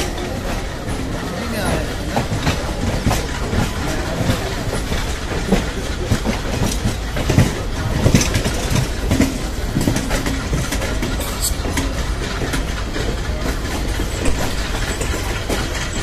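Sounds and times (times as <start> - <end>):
train wheels rumbling on rails: 0.0 - 16.0
wheels clicking over rail joints: 0.0 - 16.0.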